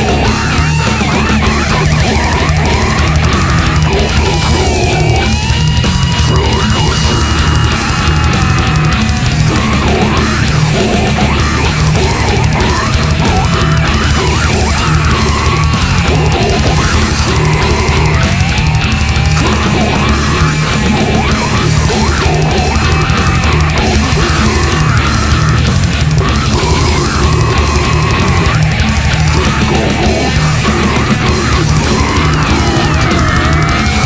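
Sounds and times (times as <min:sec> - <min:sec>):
death metal music: 0:00.0 - 0:34.0.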